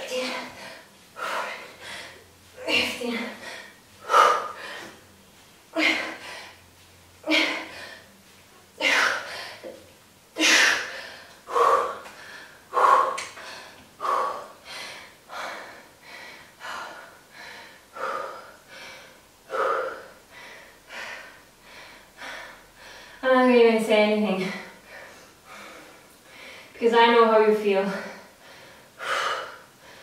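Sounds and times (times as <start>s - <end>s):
woman breathing hard: 0.0s - 8.2s, 8.8s - 9.8s, 10.4s - 23.2s, 24.4s - 26.8s, 27.9s - 30.0s.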